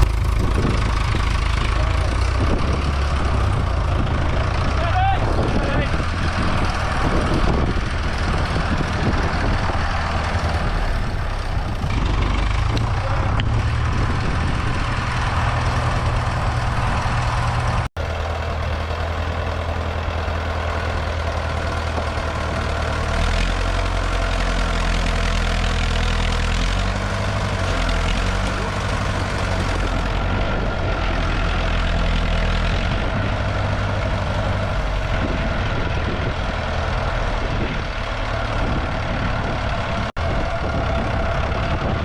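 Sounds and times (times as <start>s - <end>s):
heavy engine humming: 0.0s - 42.0s.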